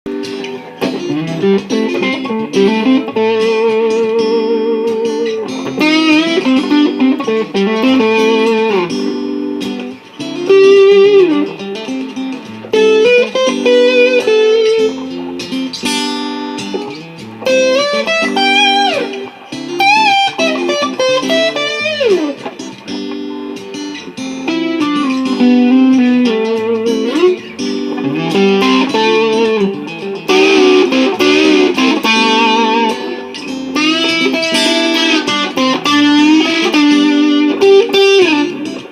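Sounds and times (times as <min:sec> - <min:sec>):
electric guitar solo: 0:00.1 - 0:38.9
looped acoustic guitar: 0:00.1 - 0:38.9.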